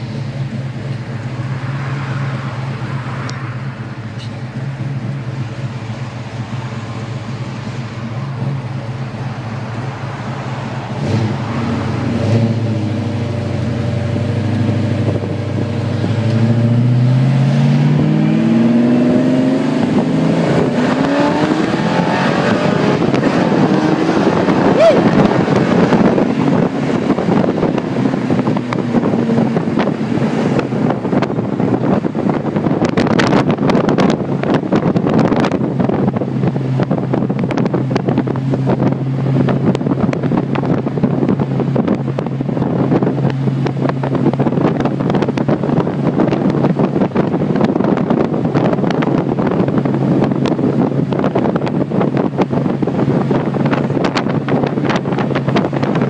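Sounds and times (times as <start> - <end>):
car engine droning in cabin: 0.0 - 56.0
wind noise on microphone: 0.0 - 56.0.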